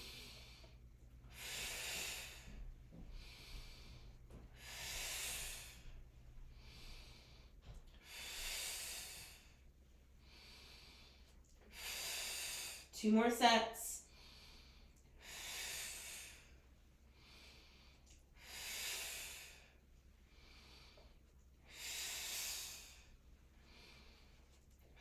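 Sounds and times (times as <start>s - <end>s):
woman breathing: 0.0s - 25.0s.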